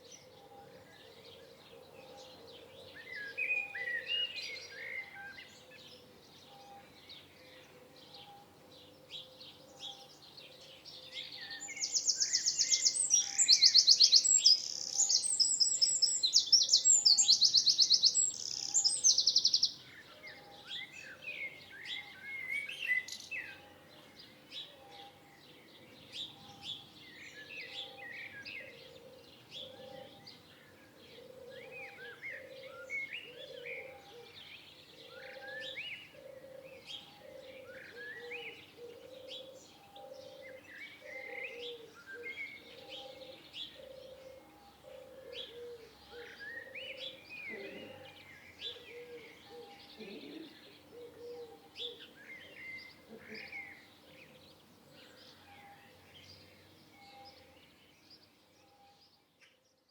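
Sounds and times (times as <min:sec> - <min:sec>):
birds chirping and singing: 0:00.0 - 0:59.9.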